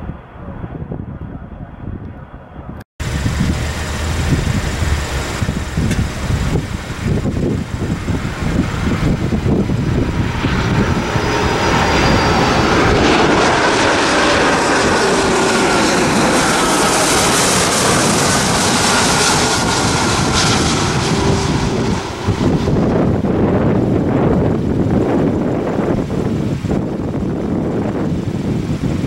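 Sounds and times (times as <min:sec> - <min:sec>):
jet engine whine: 0:00.0 - 0:29.0
jet roar: 0:00.0 - 0:29.0.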